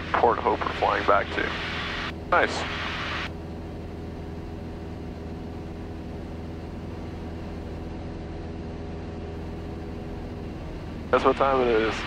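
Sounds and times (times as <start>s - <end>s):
airplane engine drone in cabin: 0.0s - 12.0s.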